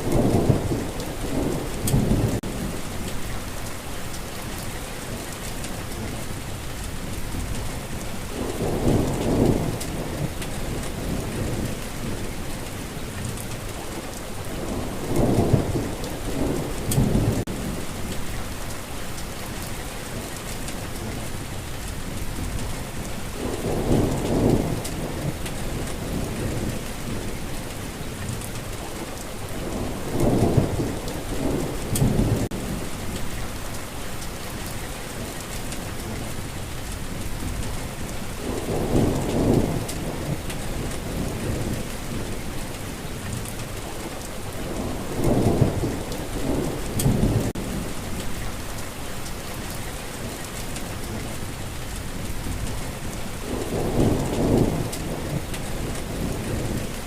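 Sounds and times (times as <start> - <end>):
thunder rumbling: 0.0 - 3.6, 6.9 - 18.7, 20.4 - 57.0
heavy rain hissing: 0.0 - 57.0.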